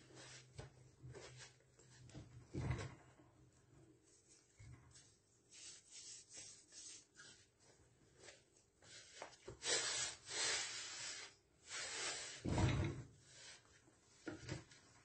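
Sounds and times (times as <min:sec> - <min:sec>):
hands kneading dough in a bowl: 0:00.0 - 0:12.4.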